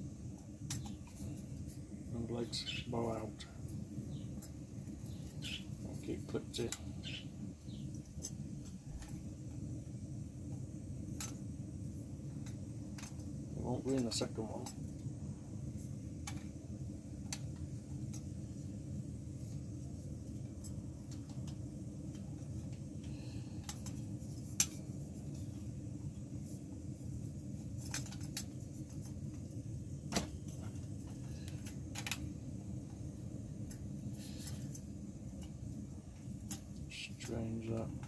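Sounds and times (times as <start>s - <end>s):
gas stove roaring: 0.0s - 38.0s.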